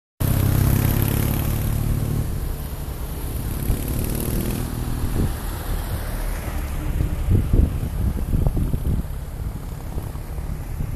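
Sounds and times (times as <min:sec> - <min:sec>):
jeep engine passing by: 0:00.2 - 0:10.9.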